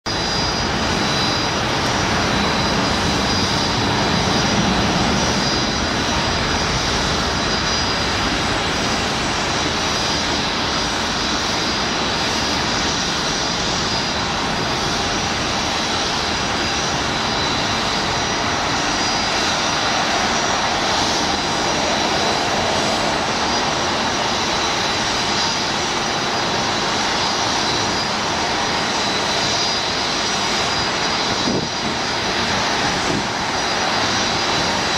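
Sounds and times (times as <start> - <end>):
jet engines roaring with whine: 0.0 - 34.9.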